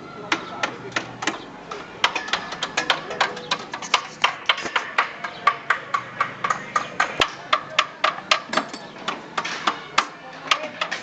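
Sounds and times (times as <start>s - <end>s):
hammer striking steel: 0.3s - 11.0s.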